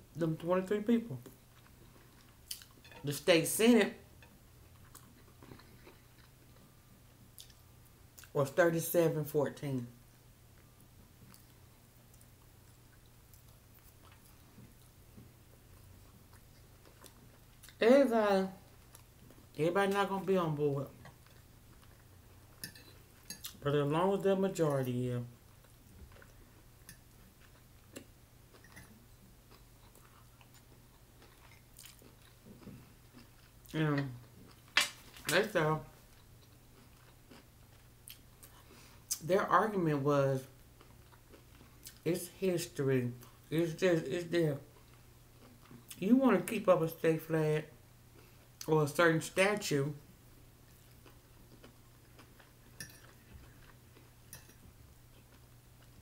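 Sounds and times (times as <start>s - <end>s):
low steady hum: 0.0s - 56.0s
soft eating sounds: 0.0s - 56.0s.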